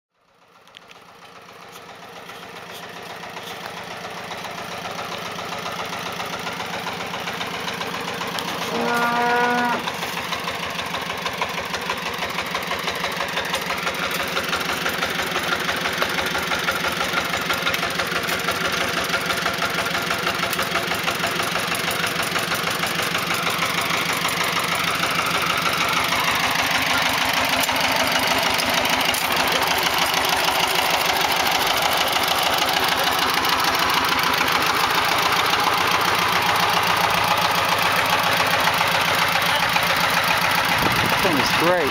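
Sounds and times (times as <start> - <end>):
diesel tiller engine chugging: 0.2 - 41.9.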